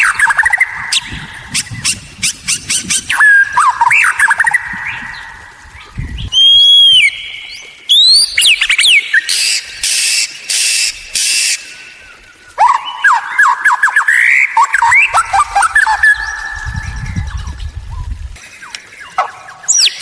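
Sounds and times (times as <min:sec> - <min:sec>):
bird singing varied song: 0:00.0 - 0:20.0.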